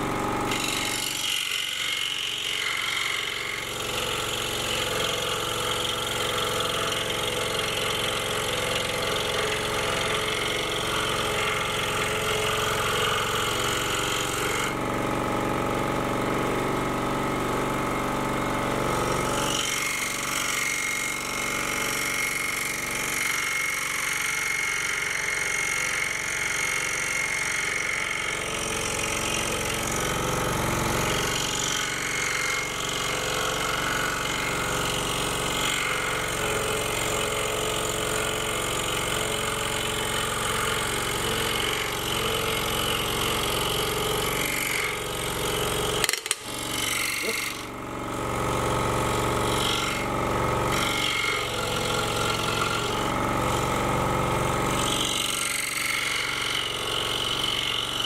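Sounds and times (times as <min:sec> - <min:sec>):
scroll saw cutting wood: 0:00.0 - 0:58.0.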